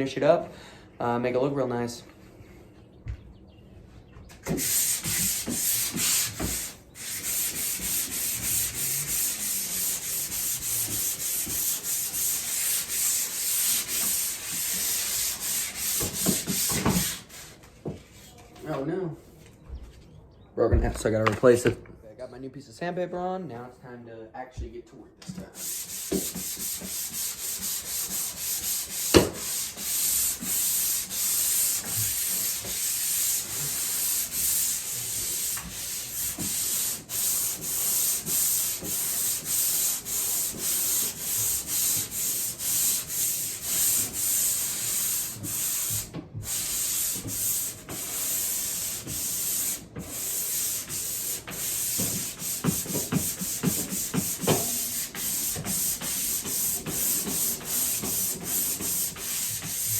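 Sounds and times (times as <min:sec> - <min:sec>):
sandpaper scratching drywall: 0:04.4 - 0:18.4, 0:25.5 - 0:59.9.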